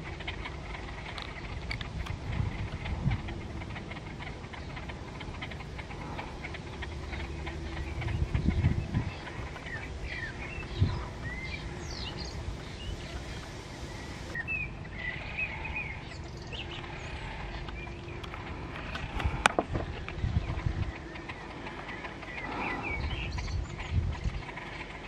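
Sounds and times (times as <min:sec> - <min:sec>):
faint steady hum: 0:00.0 - 0:25.0
small birds chirping: 0:00.0 - 0:25.0.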